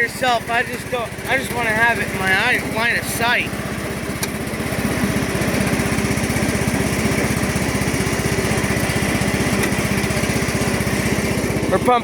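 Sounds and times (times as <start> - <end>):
small gasoline engine chugging: 0.0 - 12.0.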